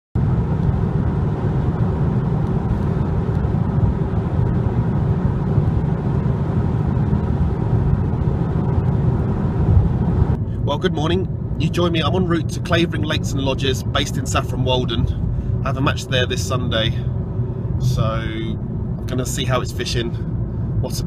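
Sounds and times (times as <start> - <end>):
car road and engine rumble: 0.2 - 21.0.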